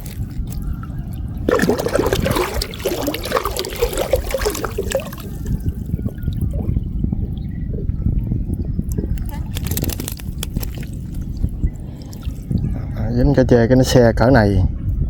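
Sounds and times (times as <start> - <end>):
water splashing and trickling: 0.0 - 12.9.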